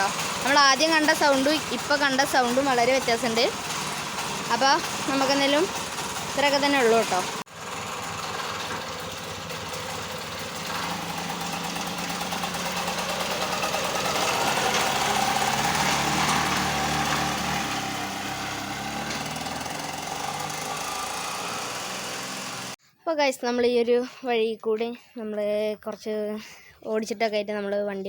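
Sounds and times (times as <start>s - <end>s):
buggy engine running: 0.0s - 22.8s.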